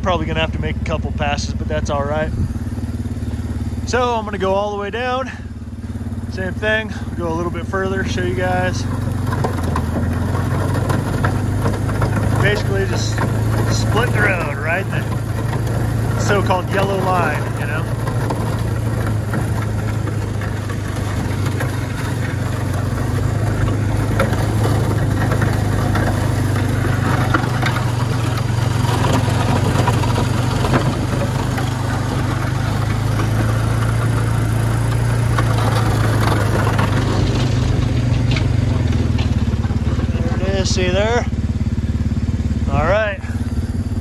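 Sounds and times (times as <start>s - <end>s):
atv engine running: 0.0s - 44.0s
plow blade scraping snow: 0.0s - 44.0s.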